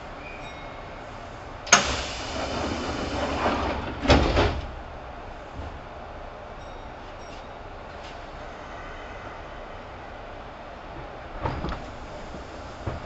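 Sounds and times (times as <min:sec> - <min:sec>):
train doors clunking: 0:00.1 - 0:08.3, 0:10.5 - 0:13.0.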